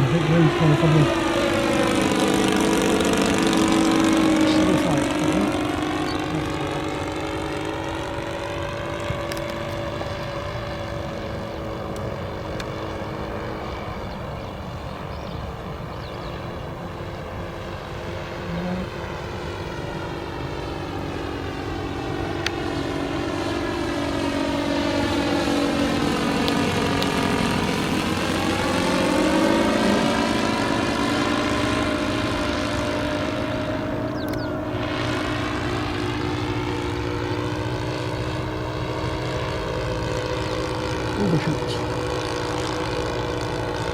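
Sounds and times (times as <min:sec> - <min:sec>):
model plane engines droning: 0:00.0 - 0:43.9.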